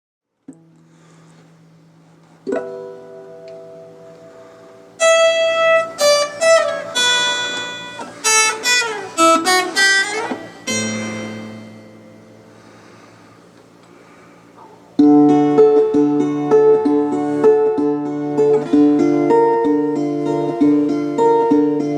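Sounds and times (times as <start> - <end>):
acoustic guitar playing: 0.5 - 13.4, 14.0 - 21.9.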